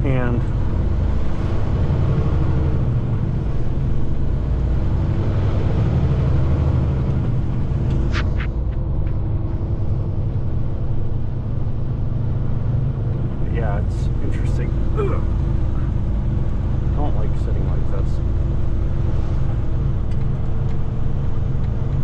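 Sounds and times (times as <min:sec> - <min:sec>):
truck diesel engine drone: 0:00.0 - 0:22.0.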